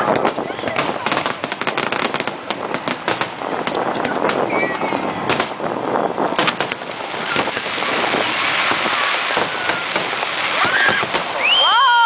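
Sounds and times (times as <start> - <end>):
fireworks bangs and pops: 0.0 - 11.8
fireworks crackling hiss: 0.0 - 12.0.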